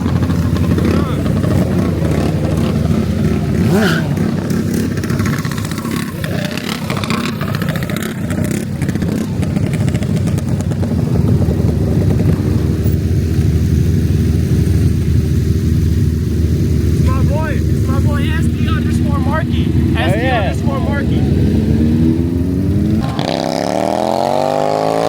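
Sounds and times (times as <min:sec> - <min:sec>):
small motorbike engines running: 0:00.0 - 0:25.0.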